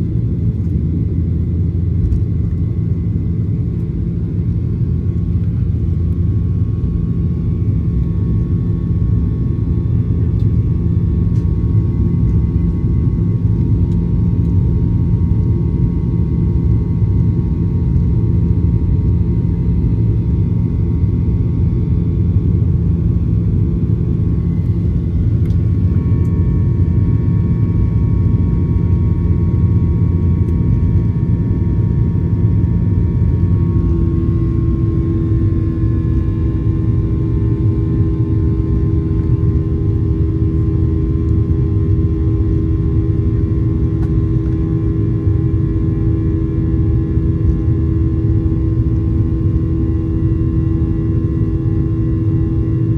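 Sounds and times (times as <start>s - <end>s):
aircraft cabin engine rumble: 0.0s - 52.9s
faint engine whines: 0.0s - 52.9s
low hum: 0.0s - 52.9s.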